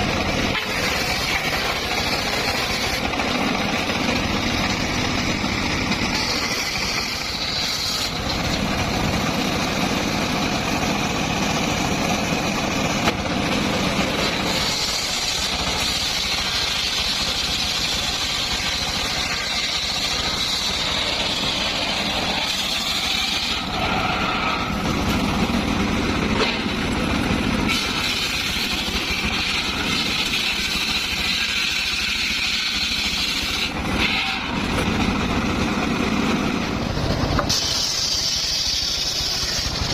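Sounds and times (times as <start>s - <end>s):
saw blade whine cutting wood: 0.0s - 39.9s
sawmill mechanical drone: 0.0s - 39.9s.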